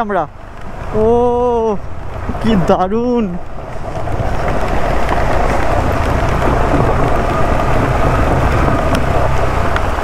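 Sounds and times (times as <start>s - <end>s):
motorcycle engine humming: 0.0s - 10.0s.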